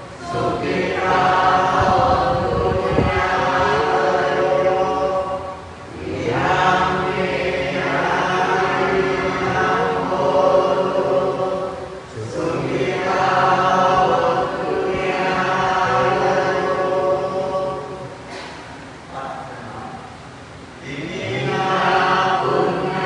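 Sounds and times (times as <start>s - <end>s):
group chanting in unison: 0.0s - 18.6s, 20.8s - 23.0s.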